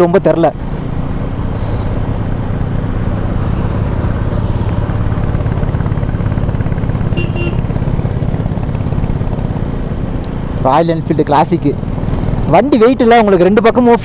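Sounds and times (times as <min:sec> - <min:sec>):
motorcycle engine running: 0:00.6 - 0:14.0.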